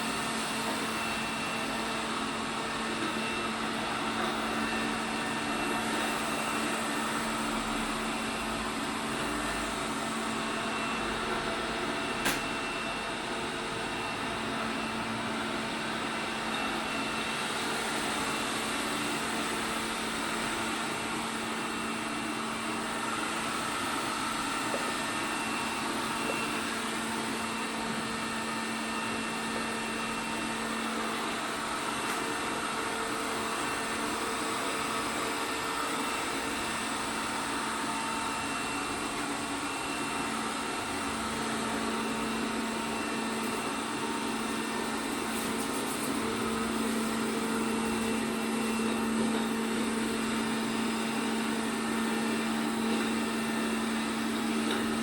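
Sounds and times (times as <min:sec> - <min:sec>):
robot vacuum running: 0:00.0 - 0:55.0.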